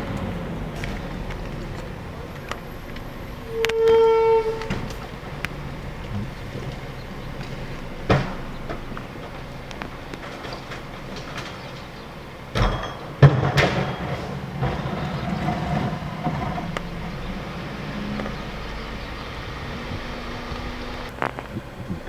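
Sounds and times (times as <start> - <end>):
loud metallic bangs: 0.0 - 21.5
garbage truck engine running: 0.0 - 22.0.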